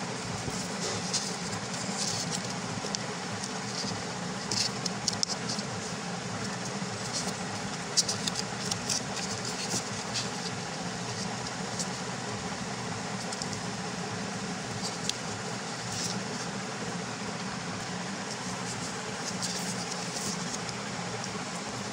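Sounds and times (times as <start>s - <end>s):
steady background hum: 0.0s - 21.9s
paper rustling and crinkling: 0.3s - 13.7s, 14.7s - 21.9s.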